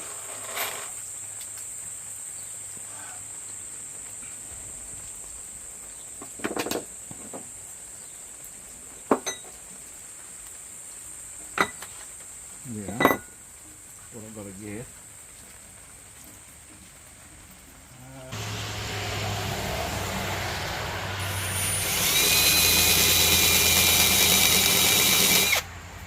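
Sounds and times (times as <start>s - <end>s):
crickets trilling: 0.0s - 16.2s, 20.2s - 25.6s.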